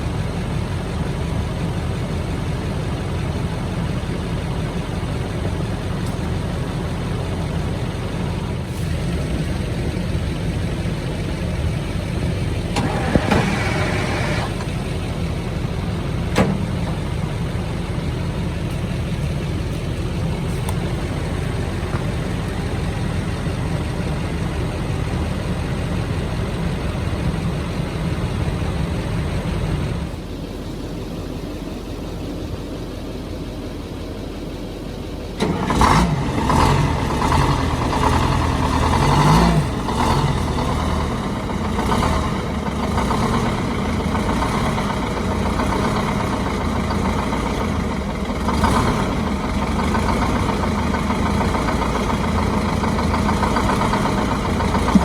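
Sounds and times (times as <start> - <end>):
excavator diesel engine rumbling: 0.0 - 55.0.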